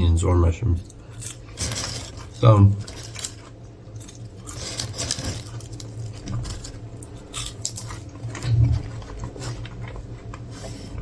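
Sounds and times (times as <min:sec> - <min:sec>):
person chewing food: 0:00.9 - 0:11.0.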